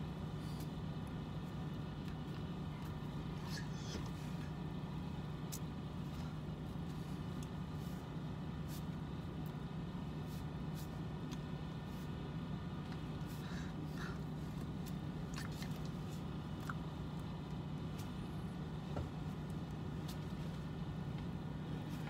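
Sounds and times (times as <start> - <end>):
vehicle idling hum: 0.0 - 22.0.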